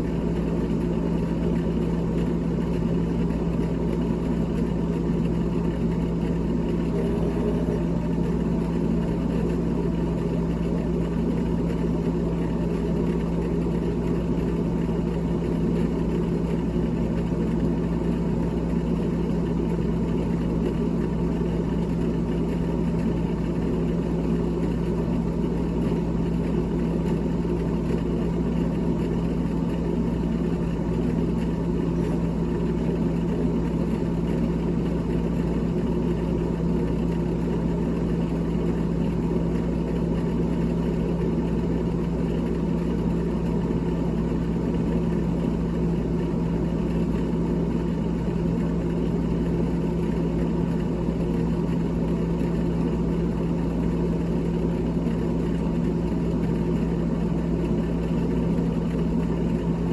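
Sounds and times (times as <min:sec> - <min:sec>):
refrigerator fan motor hum: 0:00.0 - 0:59.9.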